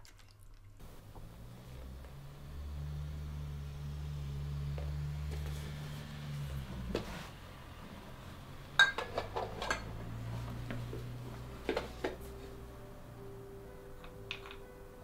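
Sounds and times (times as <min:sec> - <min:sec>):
low steady hum: 0:00.8 - 0:15.0.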